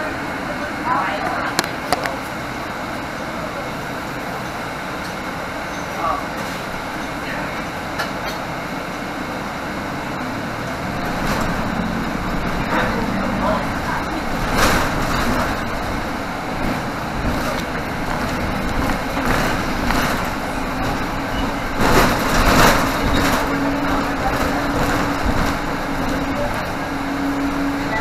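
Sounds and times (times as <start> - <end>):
bus engine and road noise: 0.0 - 28.0
bus jolts: 0.0 - 28.0.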